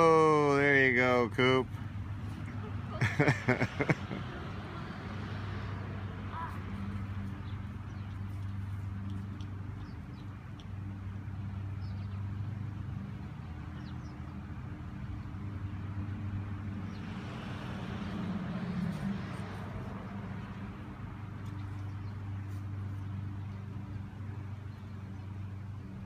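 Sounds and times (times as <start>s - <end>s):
low engine hum: 0.0s - 26.0s
vehicle passing: 0.0s - 26.0s.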